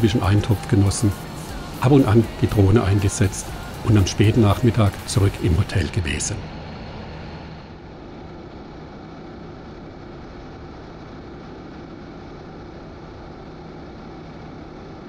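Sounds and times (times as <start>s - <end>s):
motorcycle engine hum: 0.0s - 15.0s.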